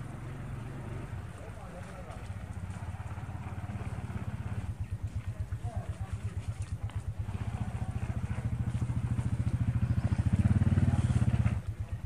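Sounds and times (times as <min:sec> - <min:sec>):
small engine puttering: 0:00.0 - 0:12.0.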